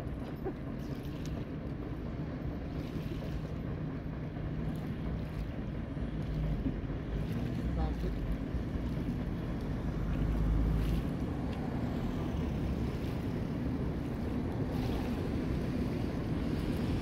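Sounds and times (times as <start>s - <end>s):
paddle wheels churning water: 0.0s - 17.0s
wind buffeting microphone: 1.4s - 17.0s.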